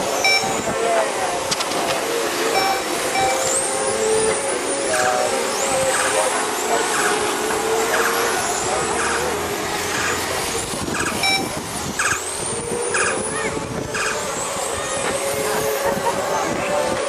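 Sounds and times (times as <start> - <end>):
high whines of passing cars: 0.0 - 17.0
hiss of motors and tyres: 0.0 - 17.0.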